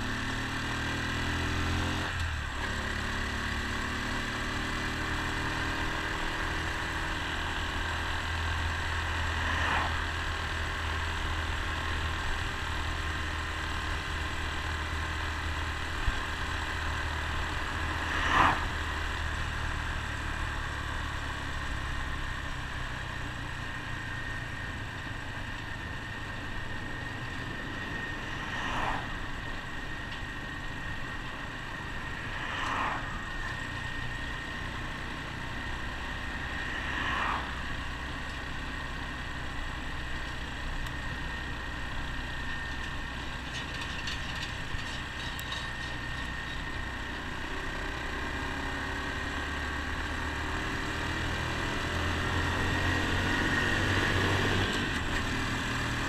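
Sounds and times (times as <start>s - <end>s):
motorcycle engine running: 0.0s - 56.0s
road noise: 0.0s - 56.0s.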